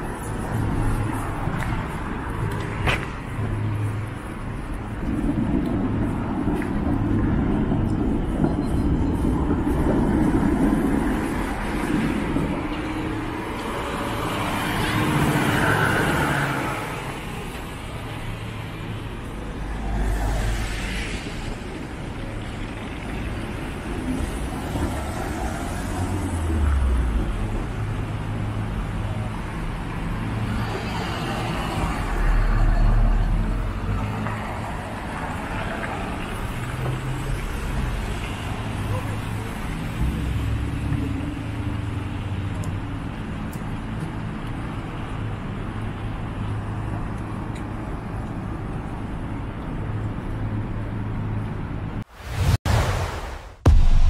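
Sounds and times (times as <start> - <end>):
cars passing close: 0.0 - 53.8
steady traffic hum: 0.0 - 54.0.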